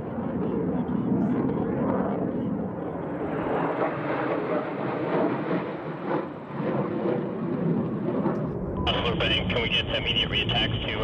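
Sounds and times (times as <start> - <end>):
fighter jet flying overhead: 0.0 - 11.0.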